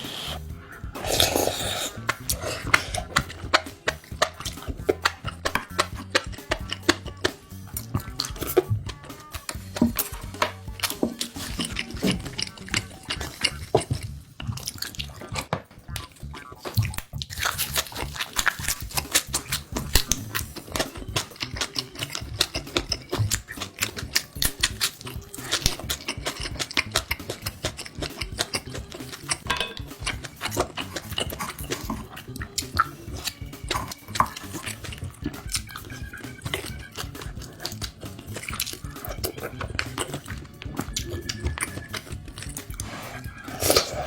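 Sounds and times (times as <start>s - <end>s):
person chewing: 0.0s - 44.0s.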